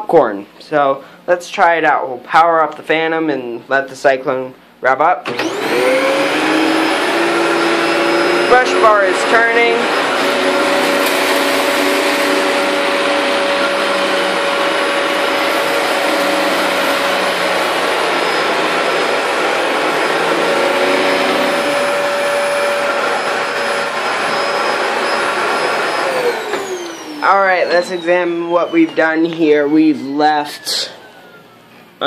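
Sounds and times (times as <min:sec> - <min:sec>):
vacuum cleaner running: 0:05.3 - 0:31.6.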